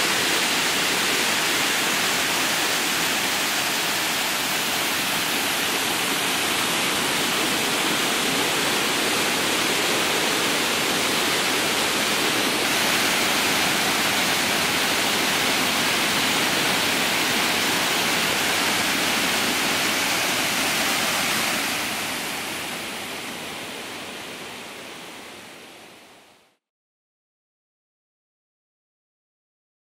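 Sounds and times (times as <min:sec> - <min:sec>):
waterfall roaring: 0:00.0 - 0:26.3.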